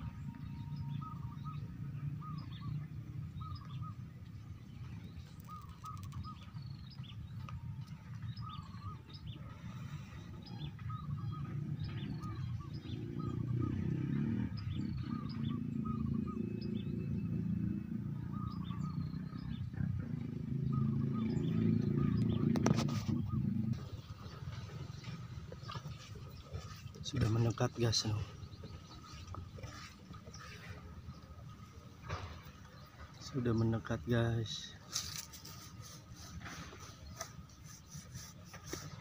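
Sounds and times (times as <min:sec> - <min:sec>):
doves cooing: 0:00.0 - 0:39.0
small birds chirping: 0:00.0 - 0:39.0.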